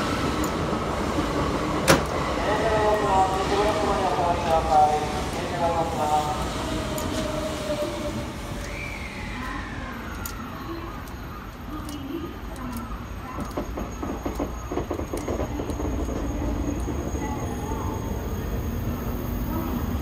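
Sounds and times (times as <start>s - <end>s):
electric train rumble: 0.0s - 20.0s.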